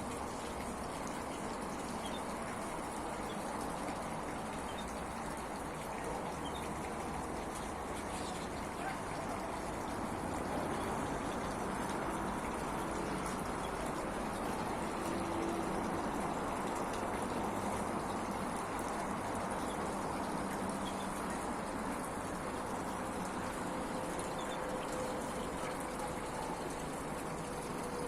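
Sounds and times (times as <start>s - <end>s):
fountain trickling and splashing: 0.0s - 28.0s.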